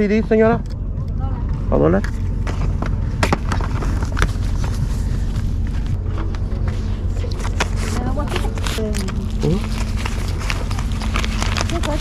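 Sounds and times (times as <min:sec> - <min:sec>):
outdoor ambient rumble: 0:00.0 - 0:12.0.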